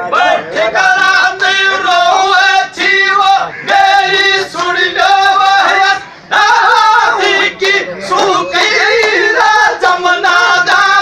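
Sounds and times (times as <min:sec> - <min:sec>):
man singing folk song loudly: 0:00.0 - 0:11.0.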